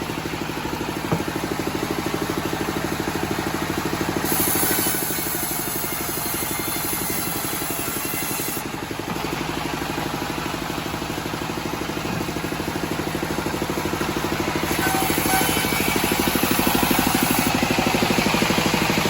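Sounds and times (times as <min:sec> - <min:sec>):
sawmill engine throbbing: 0:00.0 - 0:19.0.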